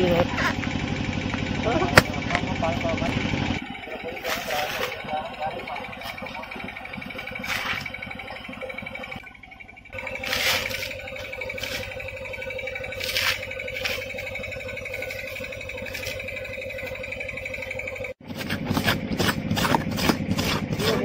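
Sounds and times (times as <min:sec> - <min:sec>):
steady high hum: 0:00.0 - 0:18.6.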